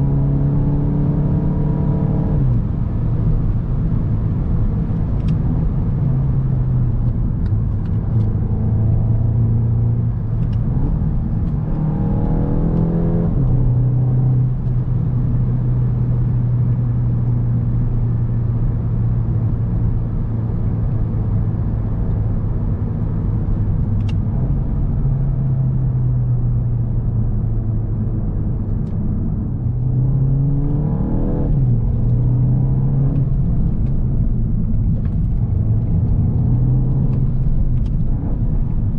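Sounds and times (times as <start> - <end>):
car engine accelerating: 0.0 - 17.7, 20.7 - 38.9
road rumble: 0.0 - 38.9.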